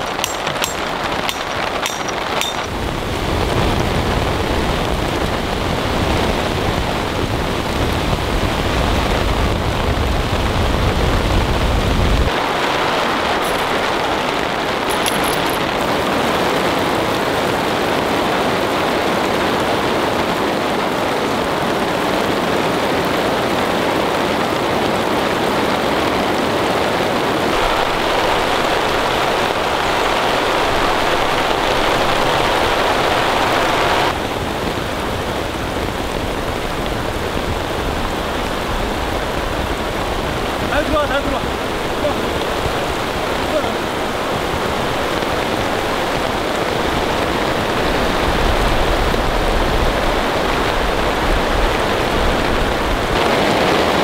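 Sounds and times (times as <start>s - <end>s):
heavy rain on tarp: 0.0s - 54.0s
wind rumble on microphone: 0.0s - 54.0s.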